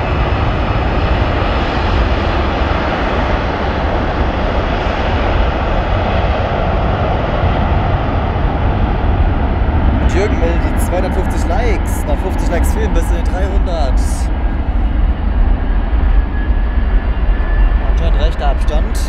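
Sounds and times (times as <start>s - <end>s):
jet engines at take-off power: 0.0s - 19.0s.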